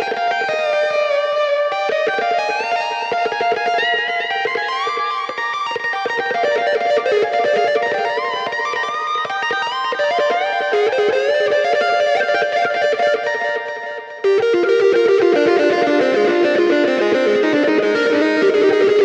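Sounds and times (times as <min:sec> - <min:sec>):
instrumental rock electric guitar: 0:00.0 - 0:19.0.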